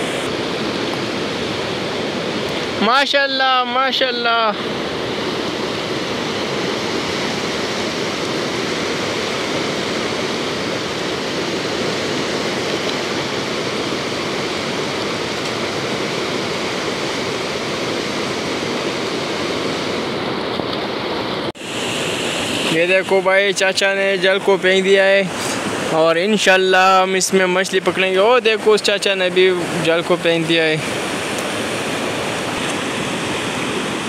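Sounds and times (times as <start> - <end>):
river rushing over rocks: 0.0 - 34.0.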